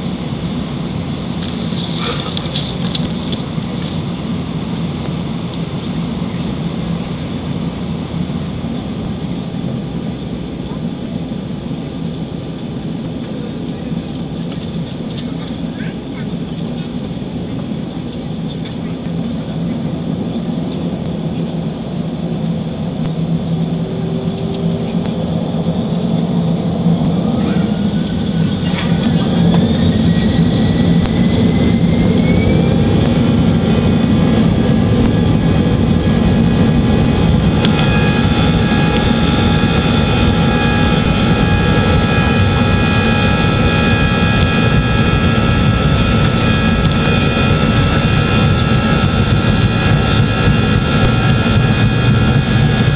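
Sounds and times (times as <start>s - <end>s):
jet engines spooling up: 0.0s - 52.9s.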